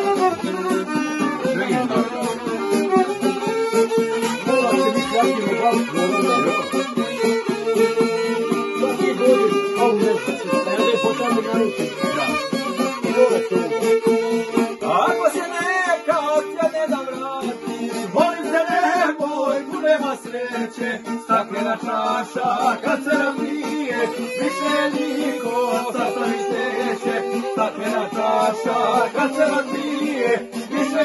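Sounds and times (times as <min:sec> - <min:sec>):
plucked lute: 0:00.0 - 0:31.0
violin melody: 0:00.0 - 0:31.0.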